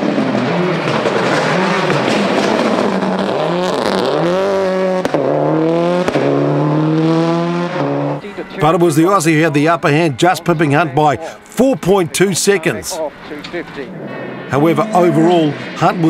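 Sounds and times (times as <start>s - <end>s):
rally car engine at full throttle: 0.0s - 16.0s.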